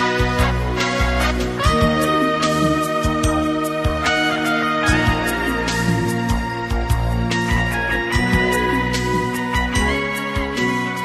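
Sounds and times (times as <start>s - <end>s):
sustained chords: 0.0s - 10.6s.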